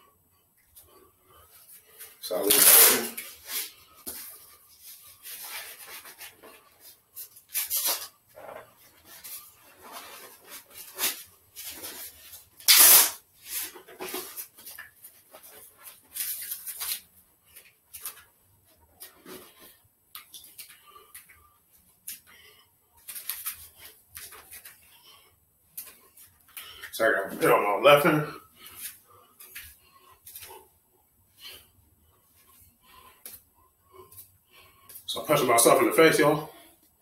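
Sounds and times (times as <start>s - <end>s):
boxing gloves rustling: 0.6s - 22.4s, 23.0s - 35.1s.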